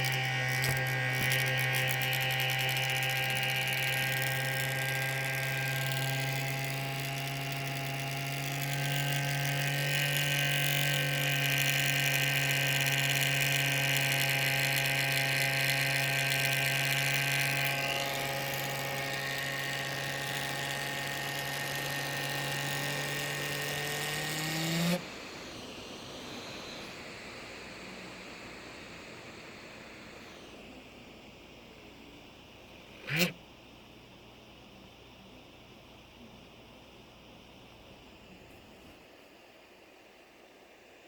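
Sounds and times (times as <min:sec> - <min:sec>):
laptop cooling fan humming: 0:00.0 - 0:41.0.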